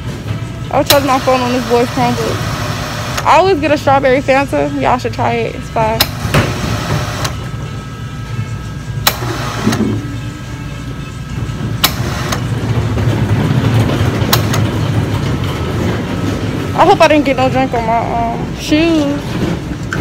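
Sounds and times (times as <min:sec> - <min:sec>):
low machinery hum: 0:00.0 - 0:20.0.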